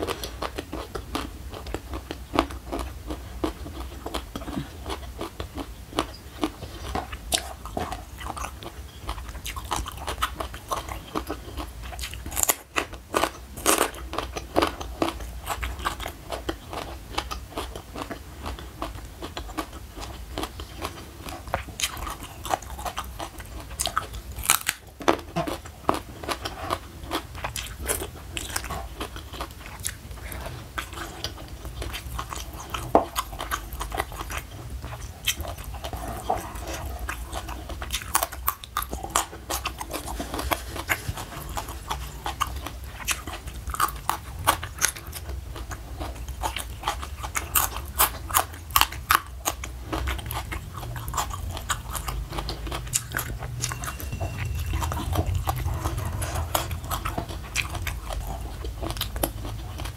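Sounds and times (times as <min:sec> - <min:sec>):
crunchy vegetable chewing: 0:00.0 - 0:59.9.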